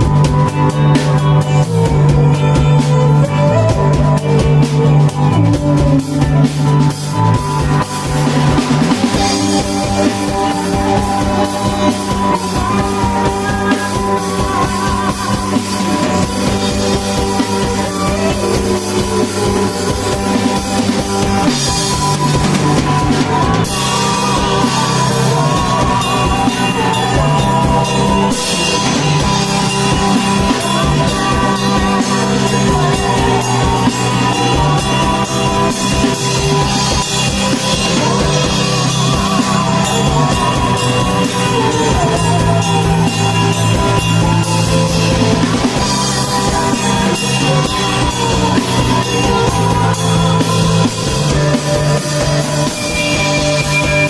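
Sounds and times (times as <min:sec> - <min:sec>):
bass: 0:00.0 - 0:54.0
drum kit beat: 0:00.0 - 0:54.0
electric guitar chords: 0:00.0 - 0:54.0.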